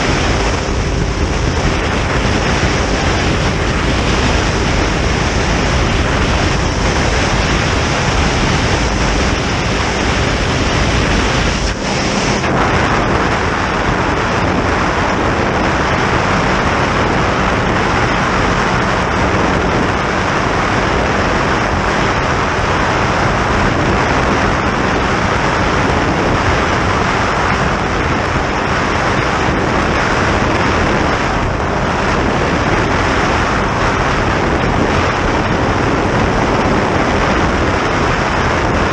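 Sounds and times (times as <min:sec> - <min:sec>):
boat engine drone: 0:00.0 - 0:38.9
water noise: 0:00.0 - 0:38.9
wind rushing over microphone: 0:00.0 - 0:38.9.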